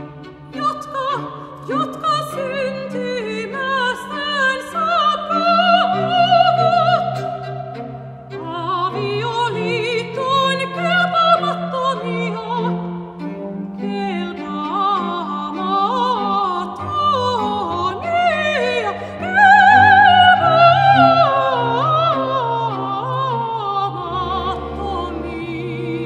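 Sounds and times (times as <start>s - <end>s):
woman singing with vibrato: 0.5s - 12.9s, 13.8s - 26.0s.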